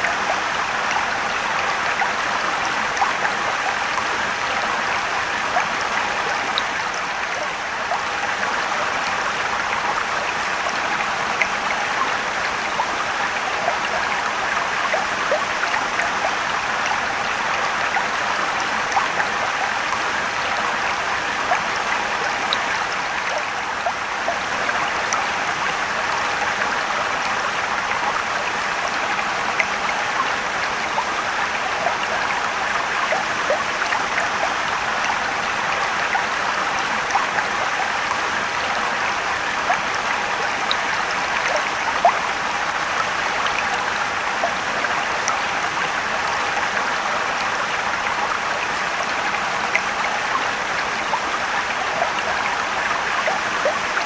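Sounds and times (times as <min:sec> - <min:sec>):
rushing stream water: 0:00.0 - 0:54.0
water splashes and trickles: 0:00.0 - 0:54.0.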